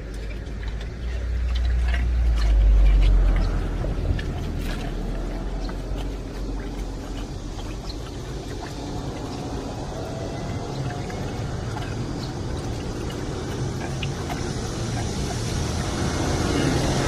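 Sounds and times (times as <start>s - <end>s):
steady low rumble: 0.0s - 17.0s
water sloshing and splashing: 0.0s - 17.0s.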